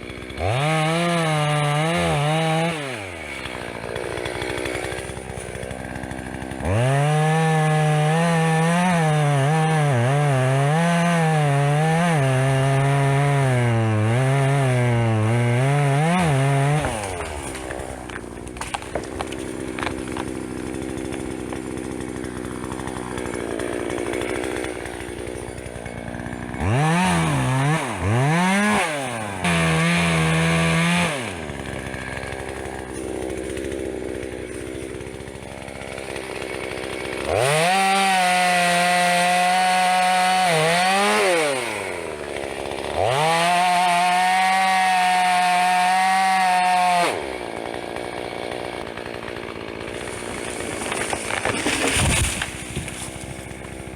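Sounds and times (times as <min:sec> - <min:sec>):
chainsaw revving: 0:00.0 - 0:53.9.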